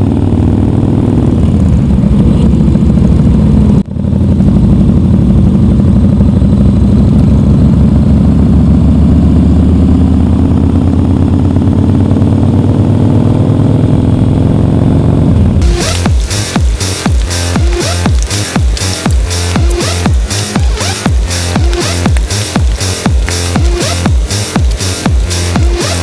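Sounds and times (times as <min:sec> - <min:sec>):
motorcycle engines running loudly: 0:00.0 - 0:26.0.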